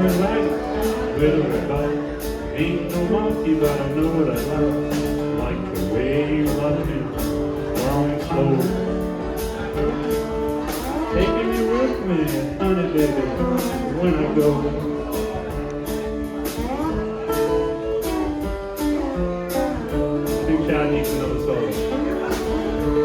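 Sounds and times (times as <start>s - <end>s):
acoustic guitar strumming: 0.0s - 23.0s
slide guitar: 0.0s - 23.0s.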